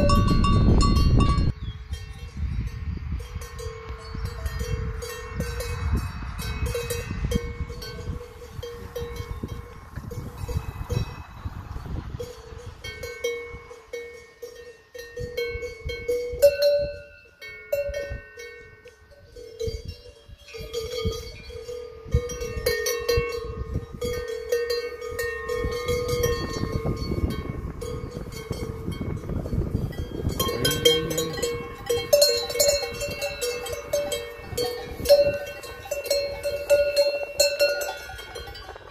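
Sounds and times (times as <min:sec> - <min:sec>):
cowbells clanking: 0:00.0 - 0:38.9.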